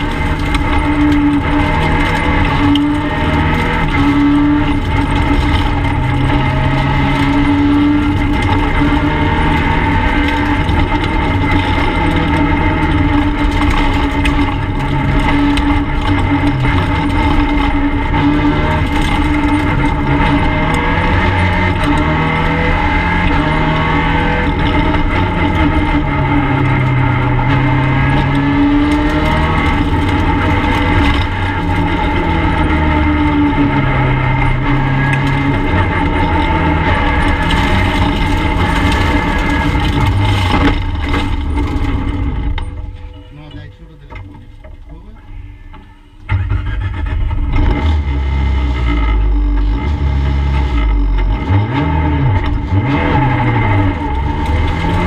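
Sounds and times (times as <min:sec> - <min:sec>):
car engine revving high: 0:00.0 - 0:55.0
road and tyre noise: 0:00.0 - 0:55.0.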